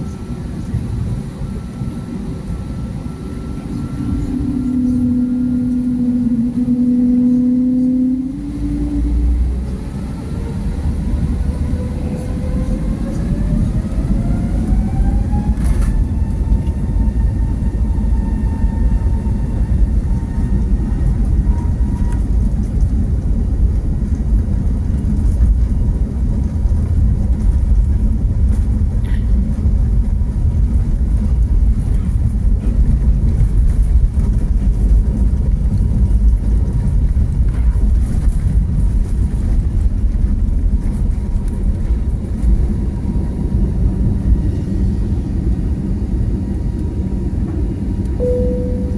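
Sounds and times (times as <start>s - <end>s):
jet cabin low rumble: 0.0s - 48.9s
jet engine whine: 0.0s - 48.9s.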